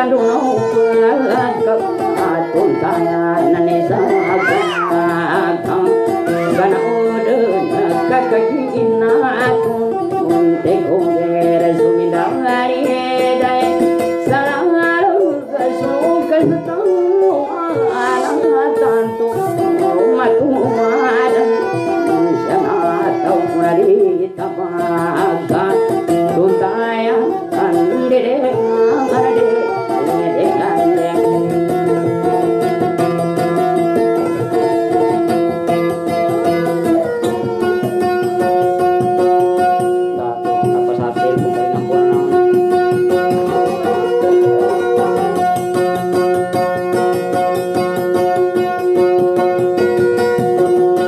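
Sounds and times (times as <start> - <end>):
acoustic guitar melody: 0.0 - 51.0.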